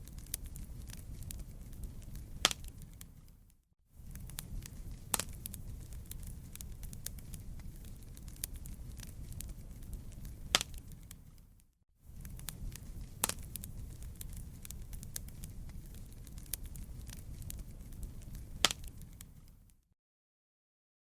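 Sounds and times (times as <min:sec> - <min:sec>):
loud fire pops: 0:00.0 - 0:03.4, 0:04.0 - 0:11.5, 0:12.1 - 0:19.7
wood fire crackling: 0:00.0 - 0:19.8.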